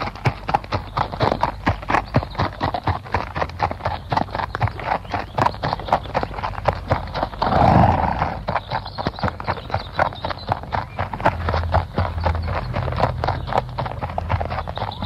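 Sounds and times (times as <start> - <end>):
galloping hooves: 0.0 - 15.0.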